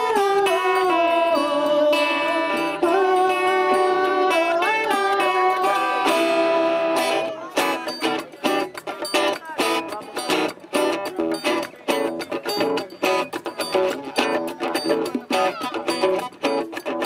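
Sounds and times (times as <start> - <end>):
held melodic notes: 0.0 - 17.0
strummed guitar chords: 0.0 - 17.0.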